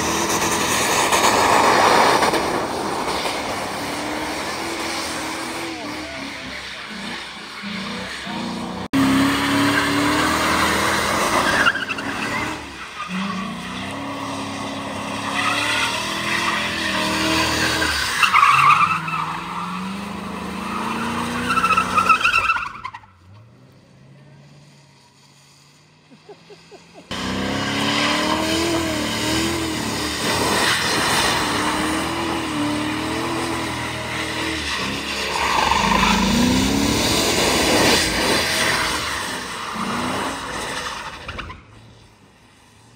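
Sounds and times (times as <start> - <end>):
car engine revving hard: 0.0 - 22.0, 27.1 - 40.7
tyres squealing on pavement: 0.0 - 23.6, 25.9 - 42.0.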